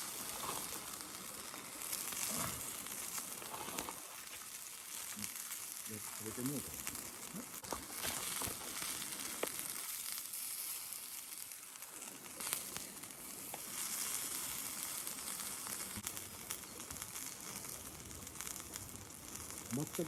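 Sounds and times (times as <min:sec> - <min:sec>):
sharp pops and crackles: 0:00.0 - 0:20.0
skewers sizzling over charcoal: 0:00.0 - 0:20.0.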